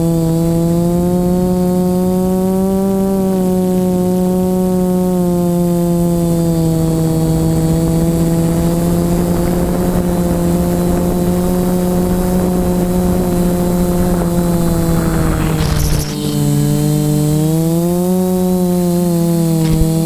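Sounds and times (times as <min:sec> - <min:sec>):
model aircraft propeller hum: 0:00.0 - 0:20.0.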